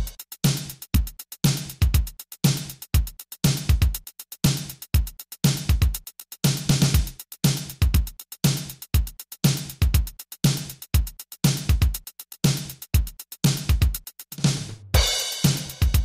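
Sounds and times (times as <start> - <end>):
electronic music with drum-machine beat: 0.0 - 16.0.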